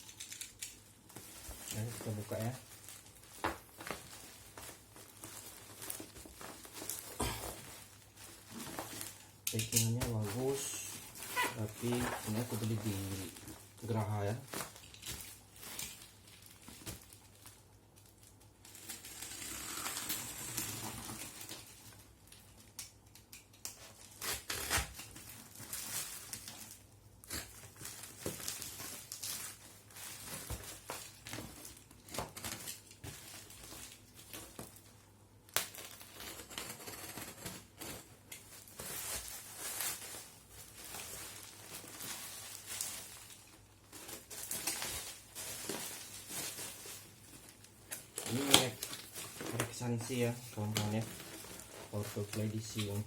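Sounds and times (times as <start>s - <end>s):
plastic wrap crinkling and tearing: 0.0s - 53.0s.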